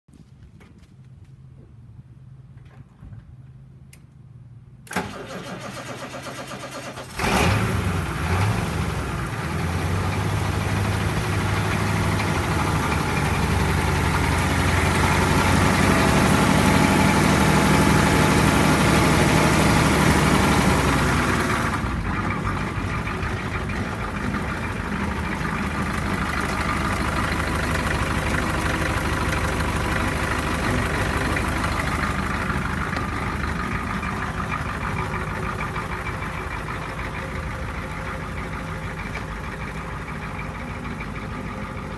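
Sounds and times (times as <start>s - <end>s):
truck engine idling: 3.7s - 41.9s.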